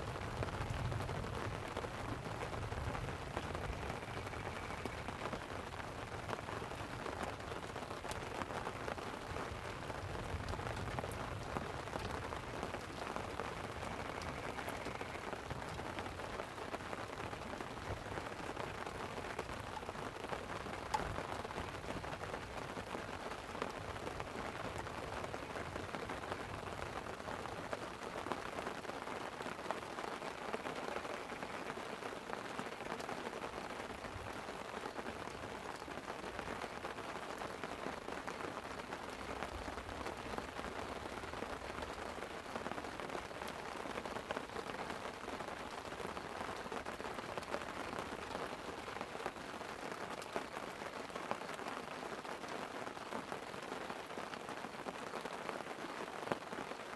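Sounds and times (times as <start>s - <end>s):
rain pattering on a tent: 0.0s - 56.9s.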